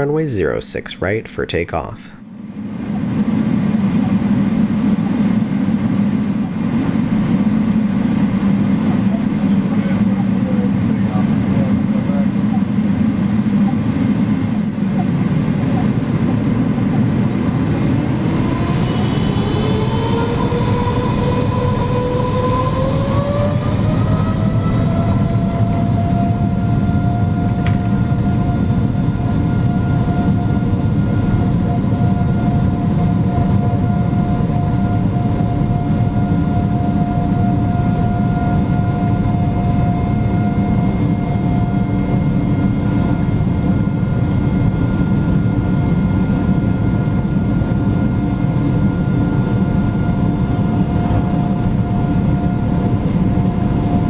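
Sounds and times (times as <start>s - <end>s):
jet engine whine: 0.0s - 54.0s
loud engine rumble: 2.6s - 47.0s.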